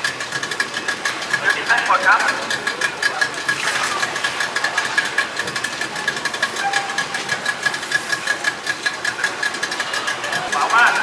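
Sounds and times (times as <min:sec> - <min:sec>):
boat engine knocking: 0:00.0 - 0:11.0.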